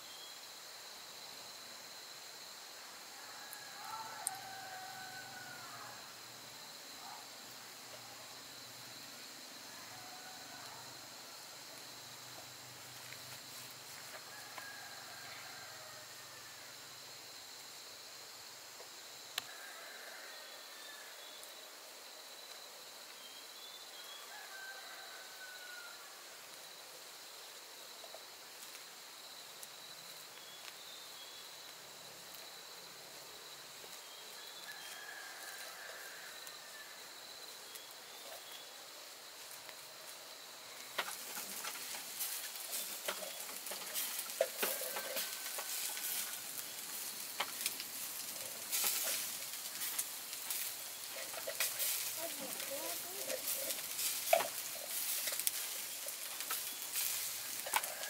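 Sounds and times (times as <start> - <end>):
dense crackling sizzle: 0.0 - 58.0
insects droning: 0.0 - 58.0.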